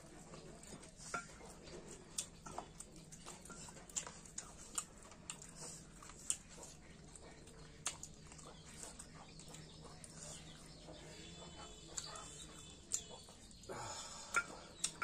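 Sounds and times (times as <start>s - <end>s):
chewing and mouth smacks: 0.0s - 13.7s, 14.3s - 15.0s.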